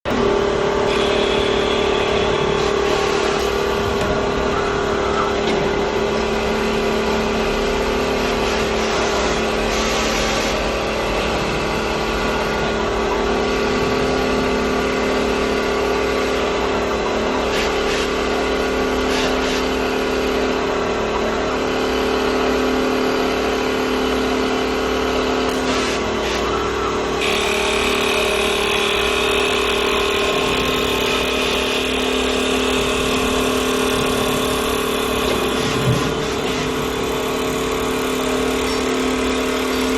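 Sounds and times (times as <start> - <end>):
constant mechanical noise: 0.0 - 39.9
lathe motor hum: 0.1 - 39.9.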